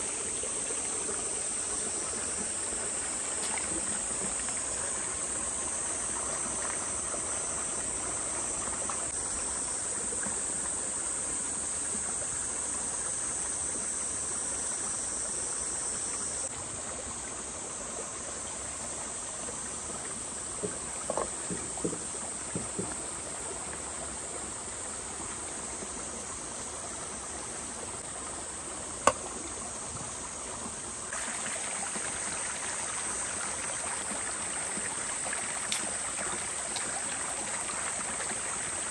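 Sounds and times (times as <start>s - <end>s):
haze like running water: 0.0s - 38.9s
insects droning: 0.0s - 38.9s.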